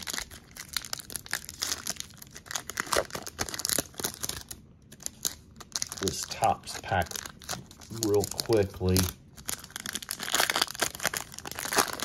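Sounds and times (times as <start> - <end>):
wrapper tearing and crinkling: 0.0 - 12.0.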